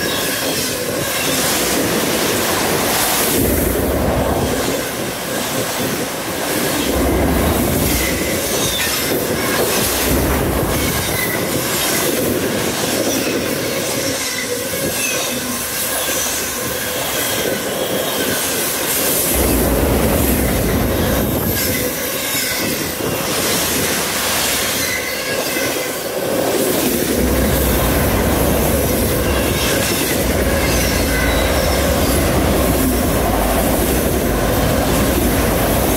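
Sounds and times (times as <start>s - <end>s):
freight train cars rolling past: 0.0s - 35.9s.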